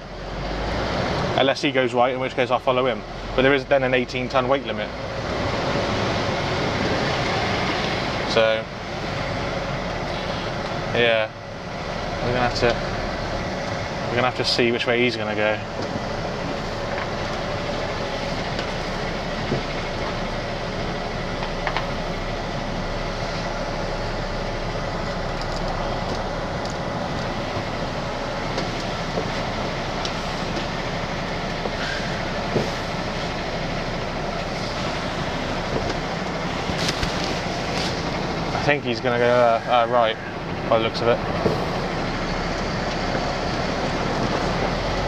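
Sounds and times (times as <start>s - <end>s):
diesel engine rumble: 0.0s - 45.0s.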